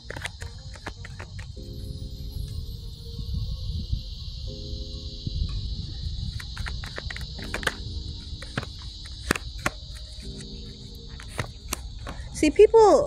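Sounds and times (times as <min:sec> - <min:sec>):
ambient music chords: 0:00.0 - 0:13.0
insects trilling: 0:00.0 - 0:13.0.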